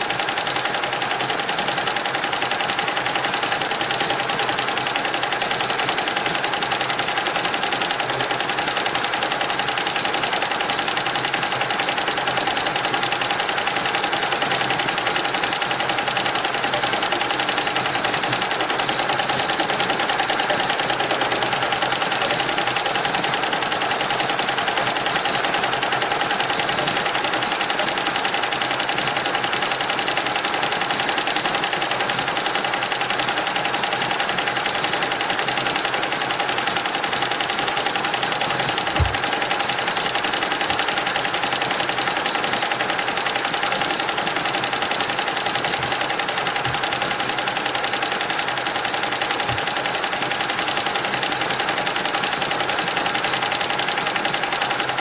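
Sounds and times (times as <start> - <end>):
embroidery machine rattling: 0.0 - 55.0.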